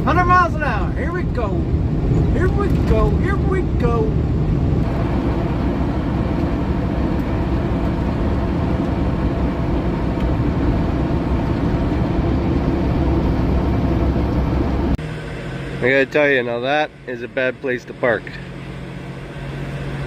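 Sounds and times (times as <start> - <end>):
truck engine and road drone: 0.0 - 20.0.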